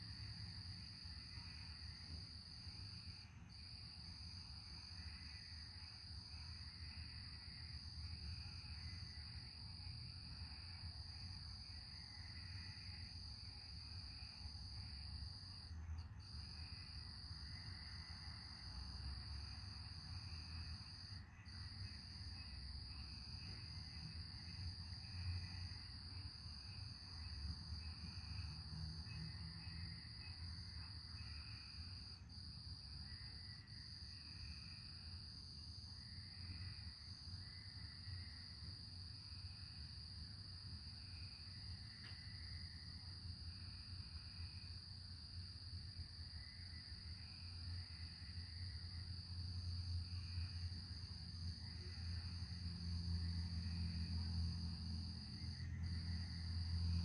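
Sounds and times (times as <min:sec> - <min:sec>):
soft pulsing insect chirp: 0:00.0 - 0:57.0.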